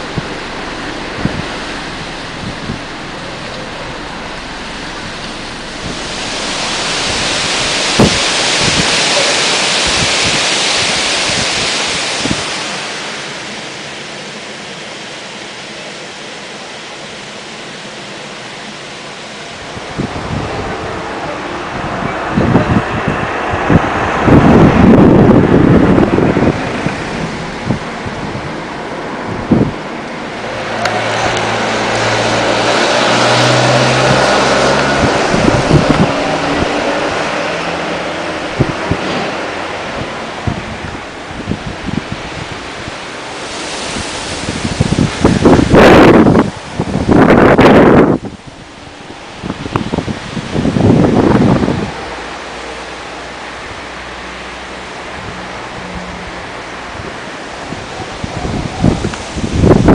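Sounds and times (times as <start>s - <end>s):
car passing: 0.0s - 59.9s
strong wind gusting: 0.0s - 59.9s
wind buffeting microphone: 0.0s - 59.9s.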